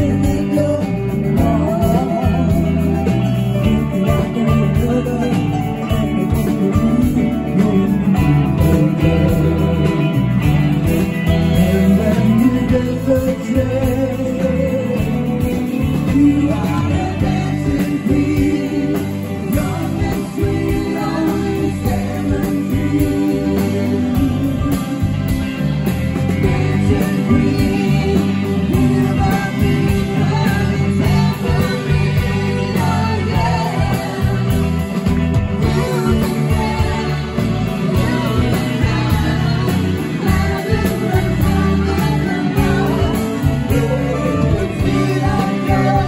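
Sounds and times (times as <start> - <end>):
bass guitar: 0.0 - 46.0
drums: 0.0 - 46.0
electric guitars: 0.0 - 46.0
person singing: 0.0 - 46.0.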